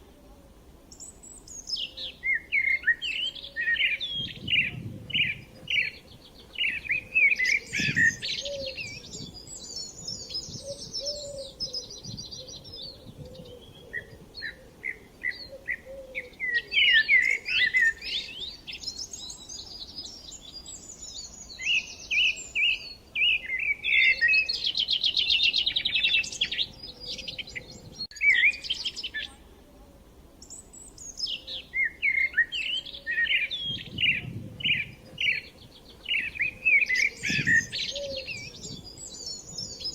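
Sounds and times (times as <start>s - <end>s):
songbirds singing: 0.9s - 39.9s.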